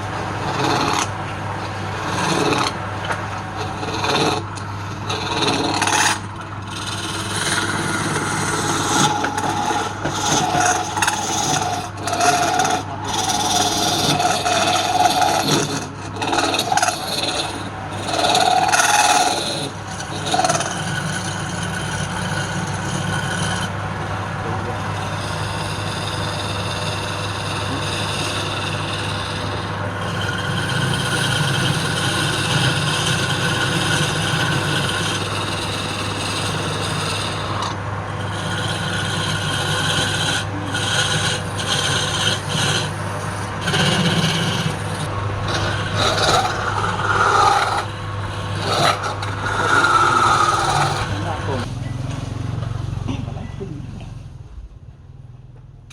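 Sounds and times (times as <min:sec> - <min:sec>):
wood lathe motor hum: 0:00.0 - 0:53.1
tool scraping spinning wood: 0:00.0 - 0:53.3.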